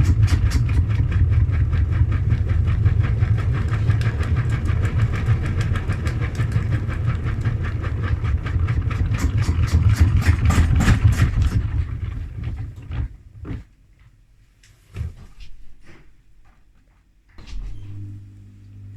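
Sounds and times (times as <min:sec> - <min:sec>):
washing machine spinning rumble: 0:00.0 - 0:13.7, 0:17.4 - 0:18.9.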